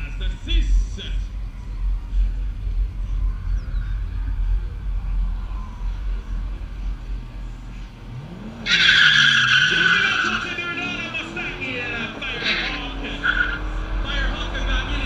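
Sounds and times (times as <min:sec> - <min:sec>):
car engine revving: 0:00.0 - 0:15.0
low steady rumble: 0:00.0 - 0:15.0
car tyres squealing: 0:02.5 - 0:15.0.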